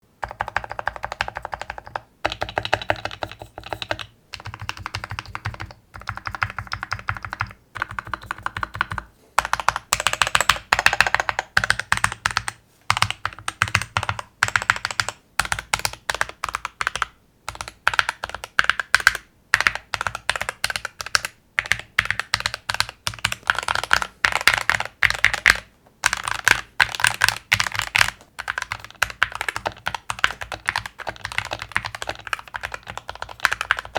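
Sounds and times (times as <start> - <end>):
fast typing on mechanical keyboard: 0.2 - 33.9.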